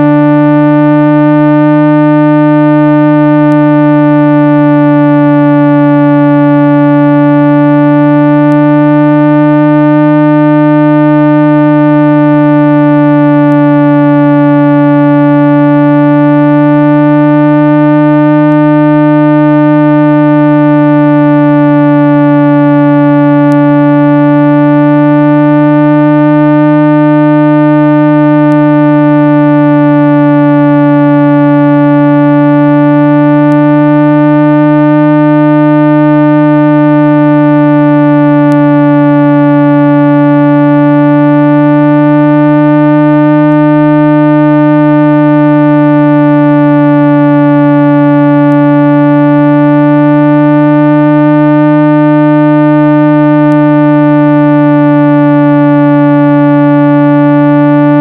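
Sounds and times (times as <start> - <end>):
low electronic hum tone: 0.0 - 58.0.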